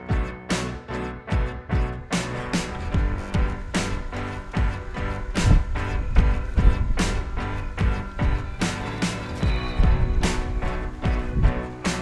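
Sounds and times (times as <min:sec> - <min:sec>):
sustained instrumental chords: 0:00.0 - 0:12.0
steady drum beat: 0:01.3 - 0:12.0.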